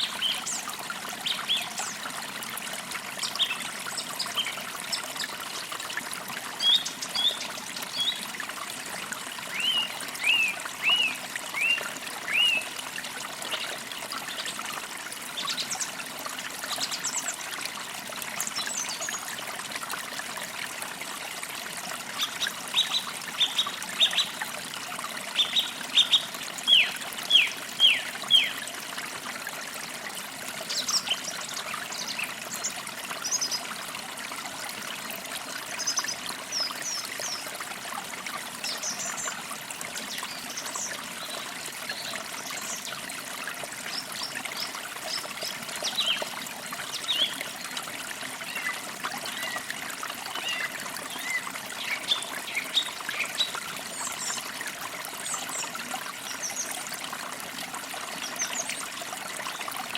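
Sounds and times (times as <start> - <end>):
creek trickling: 0.0 - 59.9.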